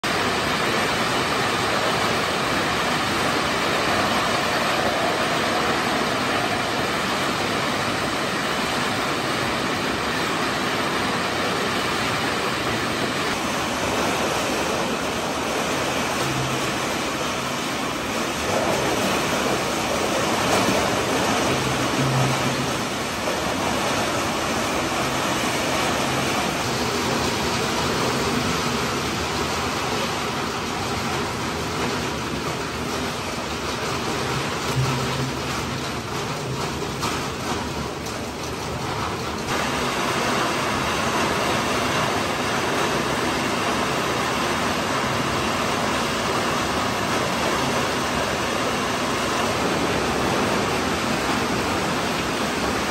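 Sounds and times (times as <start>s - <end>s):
running water: 0.0s - 52.9s
machinery running: 0.1s - 52.9s.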